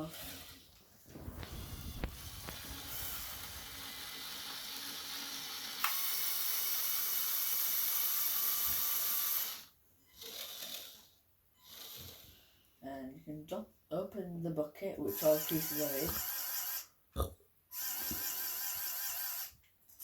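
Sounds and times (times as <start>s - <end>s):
toy motors whirring with gear rattle: 0.0s - 0.8s, 1.4s - 12.6s, 15.1s - 16.9s, 17.7s - 20.0s.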